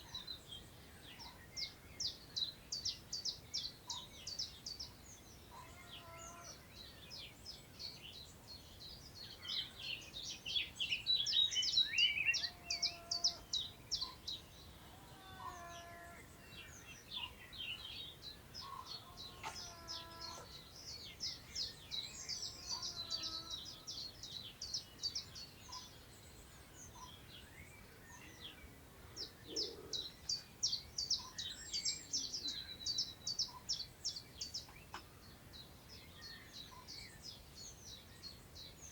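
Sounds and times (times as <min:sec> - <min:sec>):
songbirds singing: 0:00.0 - 0:38.9
wind through long grass: 0:00.0 - 0:38.9.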